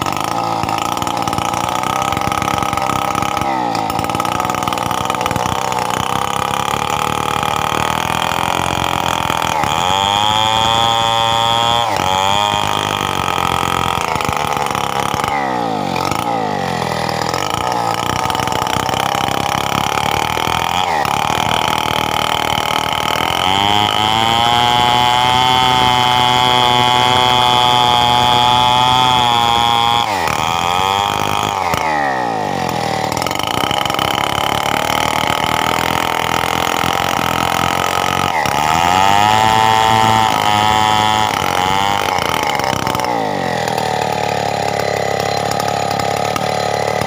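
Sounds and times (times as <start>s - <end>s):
chainsaw revving: 0.0s - 47.0s.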